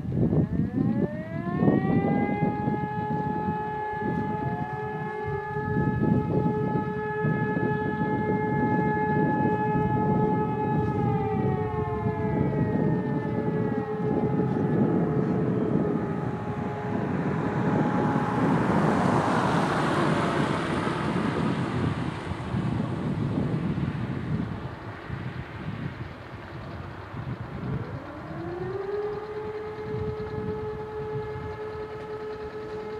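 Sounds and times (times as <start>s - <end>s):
distant motor sirens: 0.0s - 32.9s
tractor passing: 4.4s - 32.9s.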